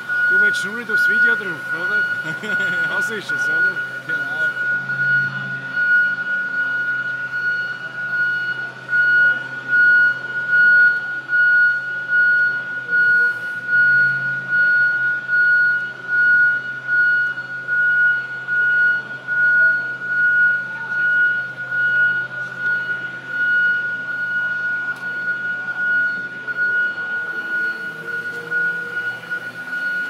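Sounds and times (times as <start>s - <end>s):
high-pitched warning beeps: 0.0s - 30.0s
low hum: 0.0s - 30.0s.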